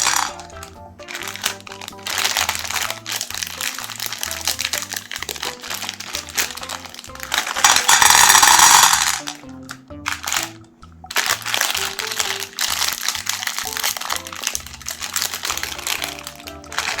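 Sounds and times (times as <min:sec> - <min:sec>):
background music: 0:00.0 - 0:17.0
meat grinder crushing candies: 0:00.0 - 0:17.0.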